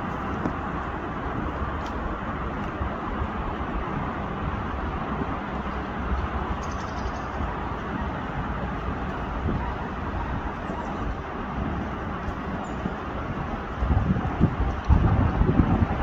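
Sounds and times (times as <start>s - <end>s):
distant road traffic hum: 0.0s - 16.0s.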